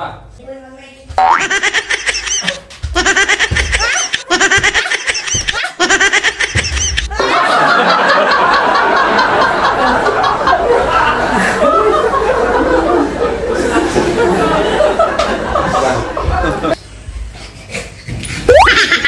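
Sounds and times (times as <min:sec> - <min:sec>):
laughter: 0:01.4 - 0:16.8, 0:18.6 - 0:19.0.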